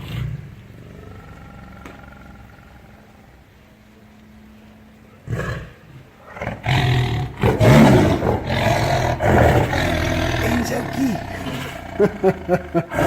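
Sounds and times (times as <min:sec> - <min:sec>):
big cat growling and roaring: 0:00.0 - 0:03.4, 0:05.2 - 0:13.0.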